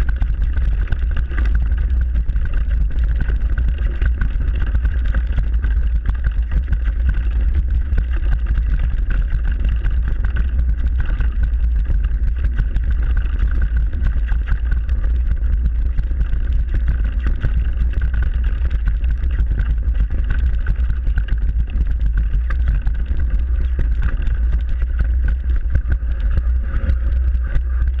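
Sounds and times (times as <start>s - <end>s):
bike tyres rumbling on dirt: 0.0s - 28.0s
rattling ticks: 0.1s - 28.0s.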